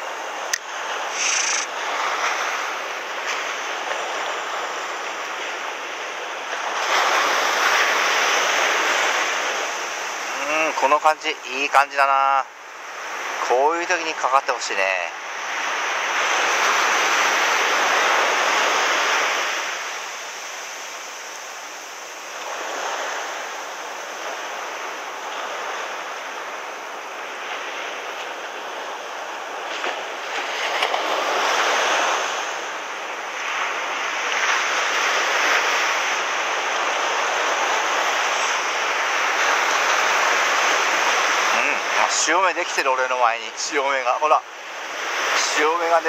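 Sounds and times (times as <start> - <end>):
ocean surf breaking on beach: 0.0 - 46.0.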